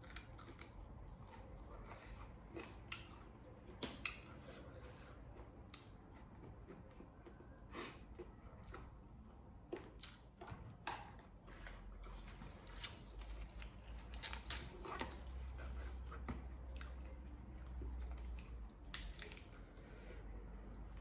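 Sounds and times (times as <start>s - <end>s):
chewing and mouth sounds: 0.0s - 10.4s, 11.9s - 21.0s.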